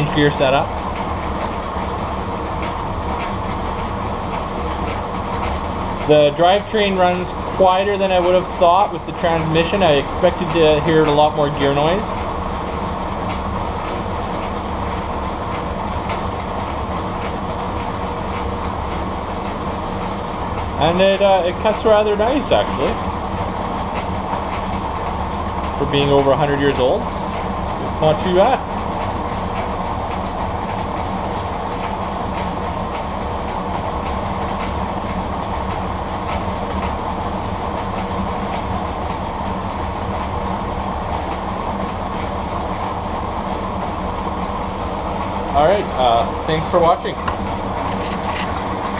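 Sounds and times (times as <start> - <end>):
lathe running with low rumble: 0.0 - 48.9.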